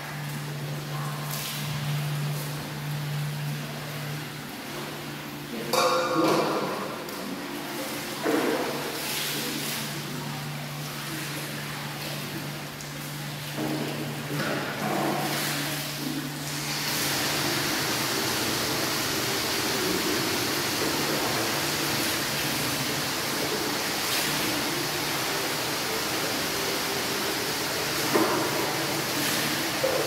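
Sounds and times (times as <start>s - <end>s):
tap water running into basin: 5.6s - 30.0s.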